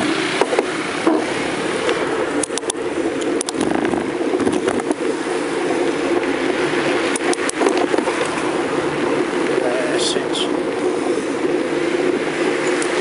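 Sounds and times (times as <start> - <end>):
bicycle rattles: 0.0 - 13.0
wind and road noise: 0.0 - 13.0.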